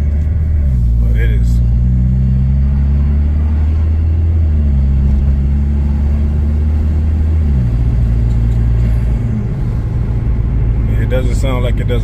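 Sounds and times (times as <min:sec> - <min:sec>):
car engine while driving: 0:00.0 - 0:12.0.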